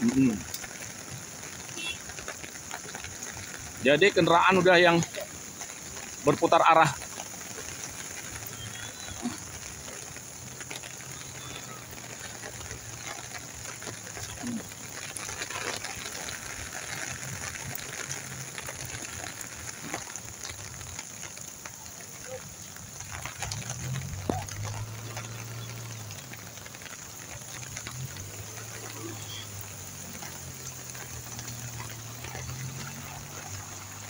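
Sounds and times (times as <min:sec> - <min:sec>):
car engines humming: 0:00.0 - 0:34.0
heavy rain on wet road: 0:00.0 - 0:34.0.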